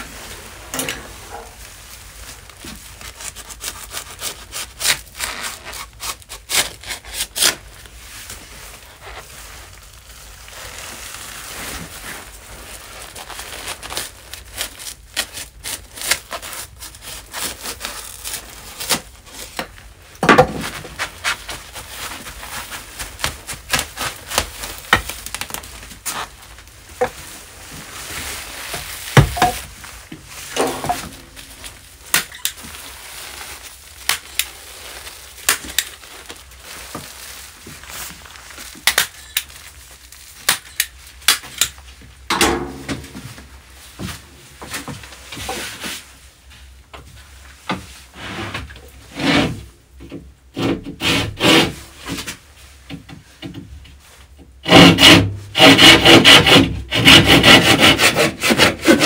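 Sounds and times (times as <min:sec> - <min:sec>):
foil insulation rustling and crinkling: 0:00.0 - 0:59.0.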